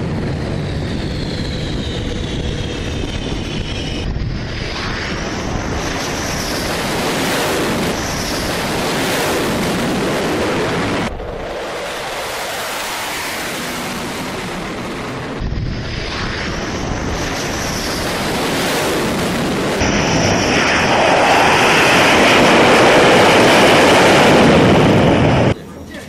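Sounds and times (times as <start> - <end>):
jet engines roaring with whine: 0.0 - 26.0.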